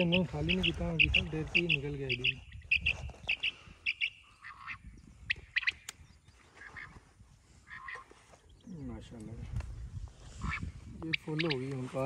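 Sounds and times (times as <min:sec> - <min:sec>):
birds chirping: 0:00.0 - 0:09.4, 0:10.3 - 0:12.0
rustling through vegetation: 0:00.0 - 0:12.0.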